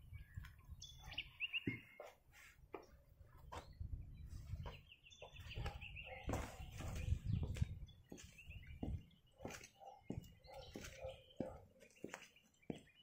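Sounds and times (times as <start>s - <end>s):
birds calling faintly: 0.0s - 13.0s.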